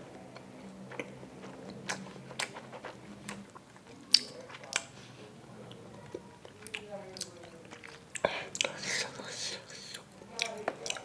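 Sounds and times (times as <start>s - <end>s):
person chewing with wet clicks: 0.1s - 5.0s, 5.6s - 11.0s.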